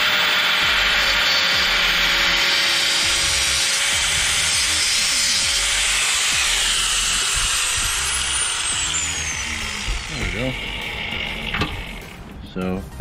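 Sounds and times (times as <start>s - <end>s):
wheel spinning down whine: 0.0s - 12.2s
cutoff wheel grinding metal: 0.0s - 12.4s.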